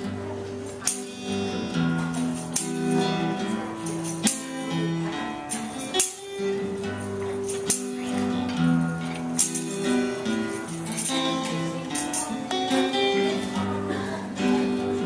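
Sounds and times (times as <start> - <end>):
instrumental holiday music: 0.0 - 15.0.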